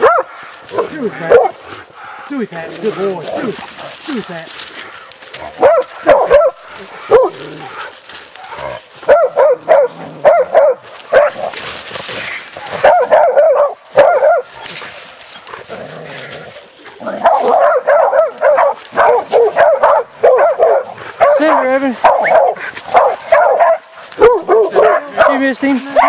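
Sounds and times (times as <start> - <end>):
dogs barking: 0.0 - 4.0, 5.1 - 15.7, 16.6 - 26.0.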